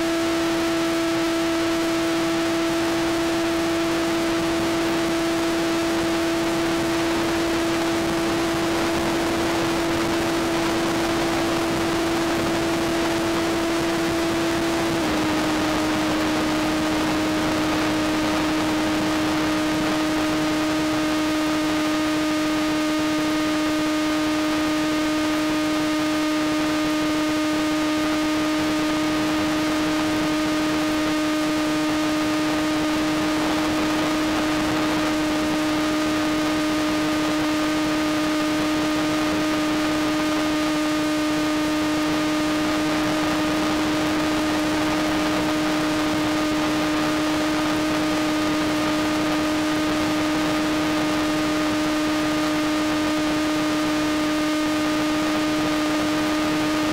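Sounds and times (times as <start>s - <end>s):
electric motor whine: 0.0s - 56.9s.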